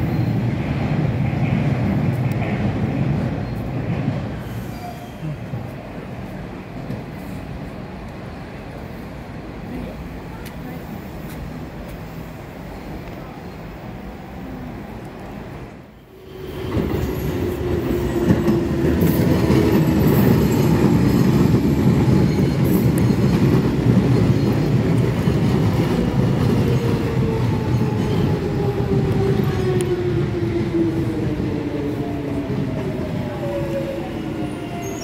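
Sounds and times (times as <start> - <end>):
underground train rumble: 0.0 - 35.0.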